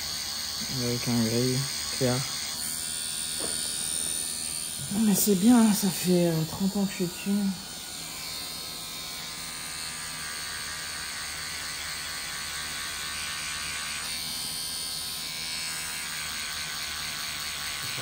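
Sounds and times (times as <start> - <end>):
tattoo machine buzzing: 0.0 - 18.0.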